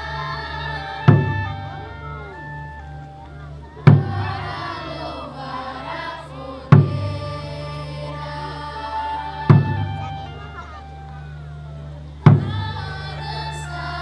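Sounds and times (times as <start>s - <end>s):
group singing with music: 0.0s - 11.1s, 12.2s - 14.0s.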